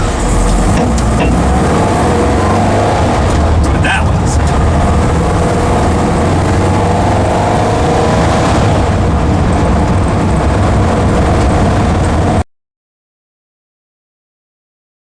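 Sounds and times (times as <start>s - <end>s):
car engine accelerating: 0.0s - 12.4s
road noise: 0.0s - 12.4s.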